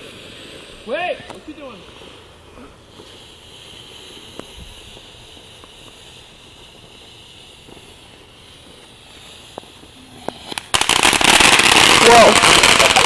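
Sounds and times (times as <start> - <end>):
high-pitched hiss of night air: 0.0 - 13.0.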